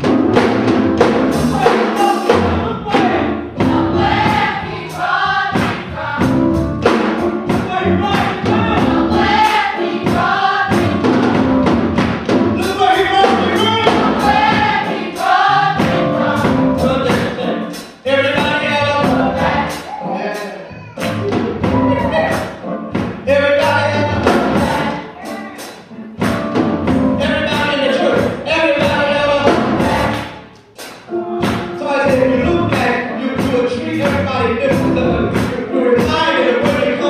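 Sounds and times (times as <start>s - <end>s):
band accompaniment: 0.0s - 37.0s
drums keeping steady beat: 0.0s - 37.0s
gospel choir singing: 0.3s - 26.3s, 27.1s - 30.9s, 31.5s - 37.0s.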